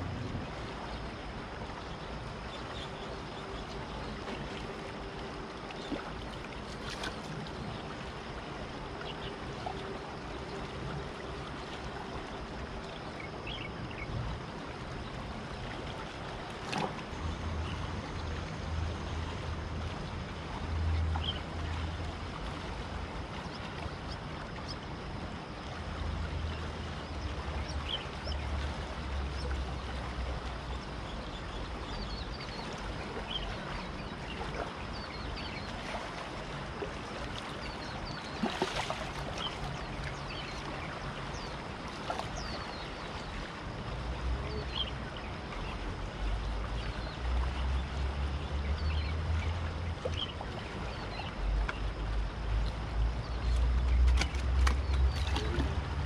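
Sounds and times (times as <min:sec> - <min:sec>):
steady river hiss: 0:00.0 - 0:56.0.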